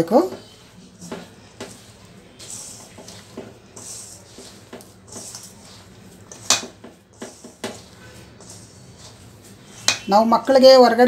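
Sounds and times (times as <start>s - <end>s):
hand squishing potato mixture: 0.0s - 10.7s.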